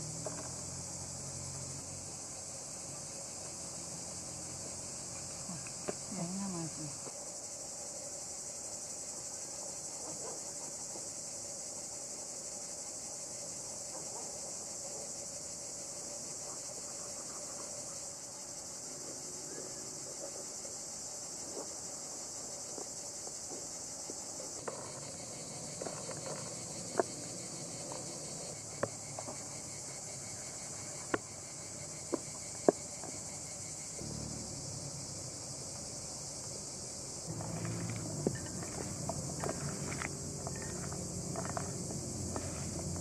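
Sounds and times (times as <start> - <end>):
crickets chirring: 0.0 - 43.0.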